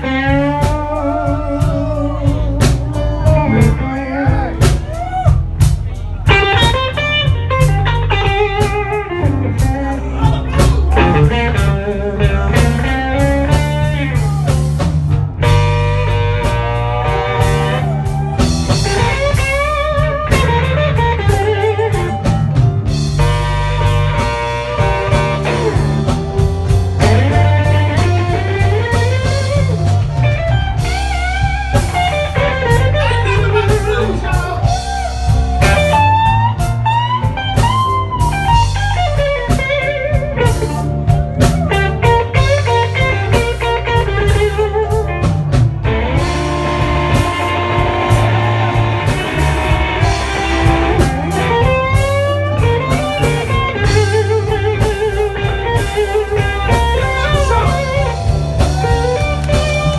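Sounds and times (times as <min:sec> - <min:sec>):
bass guitar: 0:00.0 - 0:59.9
drum kit: 0:00.0 - 0:59.9
electric guitar bending notes: 0:00.0 - 0:59.9.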